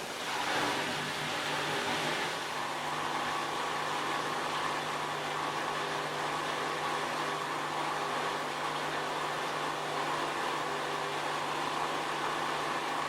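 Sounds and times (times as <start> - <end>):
washing machine motor hum: 0.0 - 13.0
washing machine whooshing: 0.0 - 13.0.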